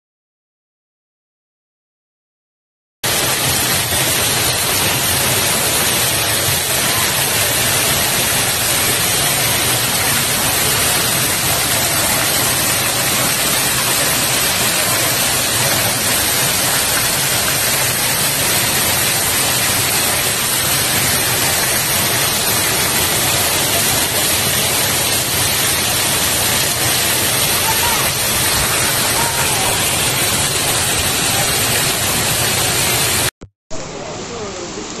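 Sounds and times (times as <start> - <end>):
water pouring off a roof: 3.0 - 33.3
heavy rain: 3.0 - 35.0.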